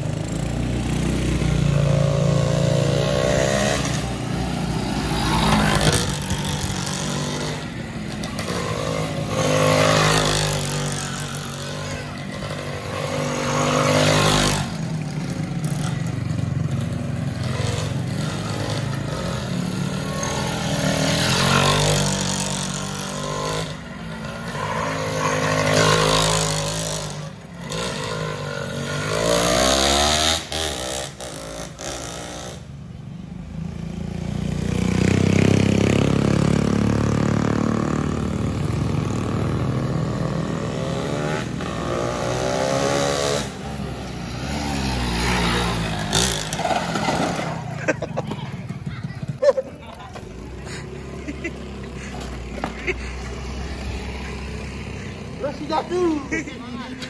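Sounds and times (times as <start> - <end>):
motorcycle revving past: 0.0 - 32.7, 33.8 - 48.0.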